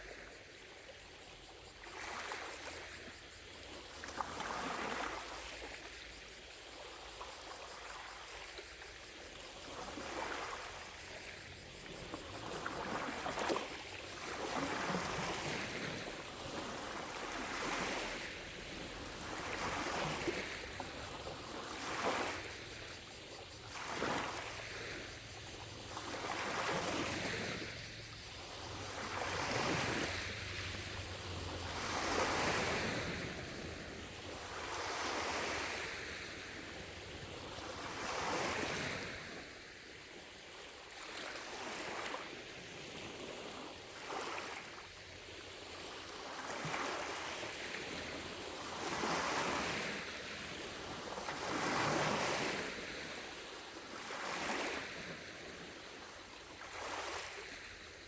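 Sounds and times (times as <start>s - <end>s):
distant cicadas droning: 0.0s - 58.0s
waves lapping against shore: 0.0s - 58.0s.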